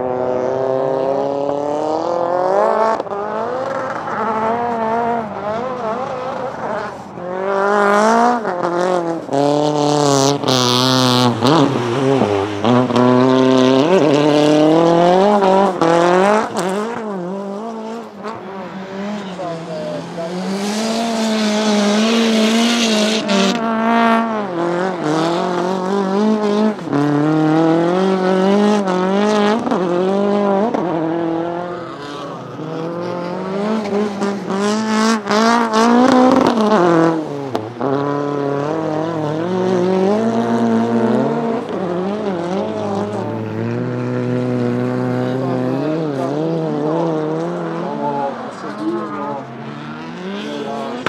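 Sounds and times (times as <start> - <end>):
car engine revving hard: 0.0 - 51.0.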